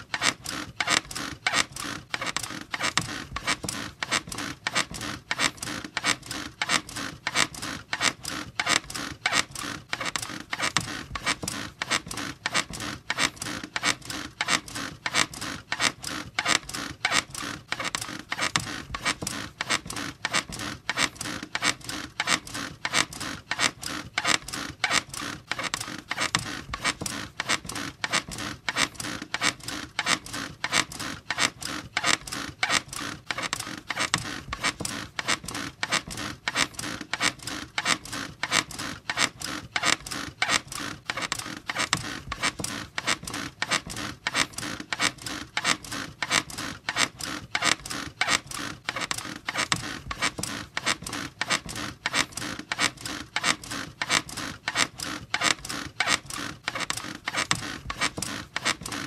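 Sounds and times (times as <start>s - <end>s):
bed springs squeaking: 0.0s - 59.0s.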